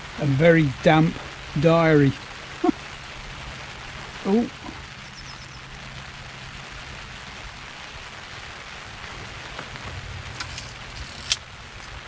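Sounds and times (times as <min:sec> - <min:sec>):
rain on an umbrella: 0:00.0 - 0:12.0.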